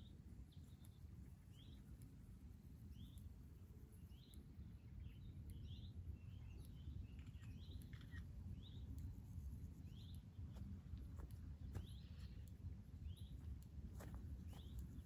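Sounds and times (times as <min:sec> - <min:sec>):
low outdoor rumble: 0:00.0 - 0:15.0
songbird chirping: 0:00.0 - 0:15.0.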